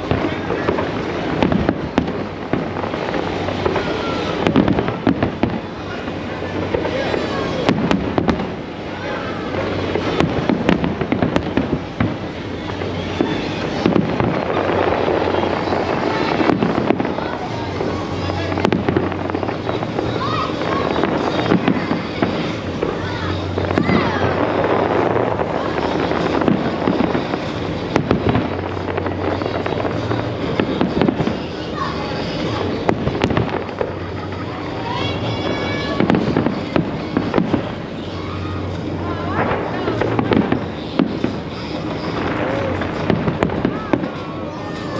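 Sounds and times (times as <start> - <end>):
crowd noise: 0.0 - 44.9
firework bangs: 0.0 - 44.9
fireworks crackling: 0.0 - 44.9.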